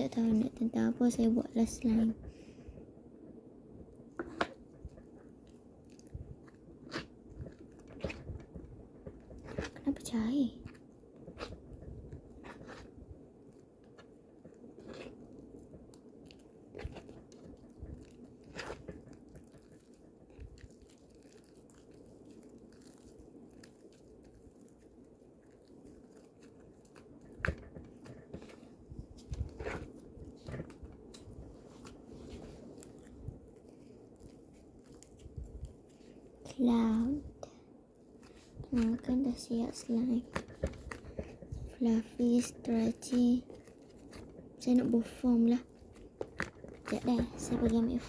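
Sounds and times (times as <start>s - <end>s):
faint steady hum: 0.0s - 48.0s
slime clicking and crackling: 4.0s - 48.0s.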